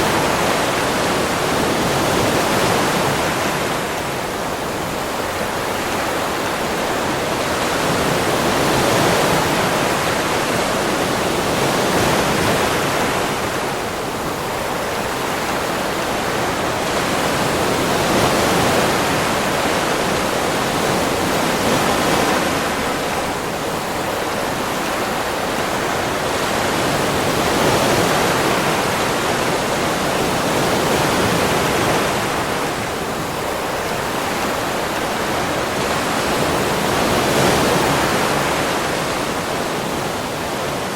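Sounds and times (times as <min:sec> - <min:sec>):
ocean waves washing onto beach: 0:00.0 - 0:40.9.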